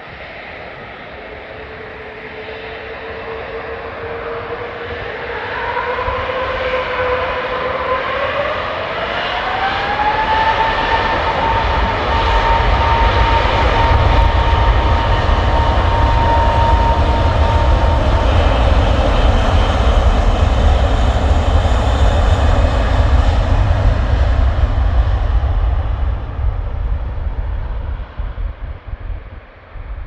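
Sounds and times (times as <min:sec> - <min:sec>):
high jet whine: 0:00.0 - 0:30.0
jet engines roaring at takeoff: 0:00.0 - 0:30.0.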